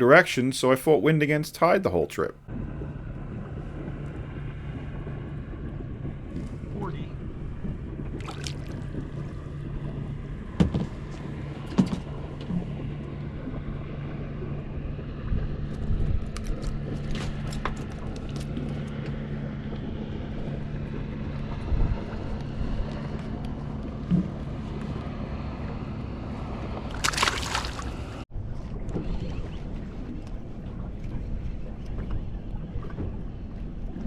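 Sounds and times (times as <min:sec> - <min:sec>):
boat motor humming: 0:00.0 - 0:34.0
water noise: 0:00.0 - 0:34.0
wind: 0:00.0 - 0:34.0.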